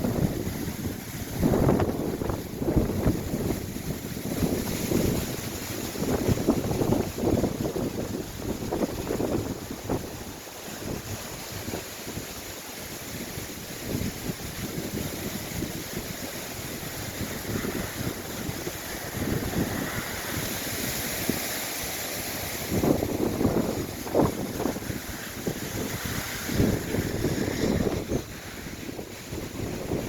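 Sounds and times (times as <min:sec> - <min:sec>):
wind buffeting microphone: 0:00.0 - 0:30.0
wind rushing hiss: 0:00.0 - 0:30.0.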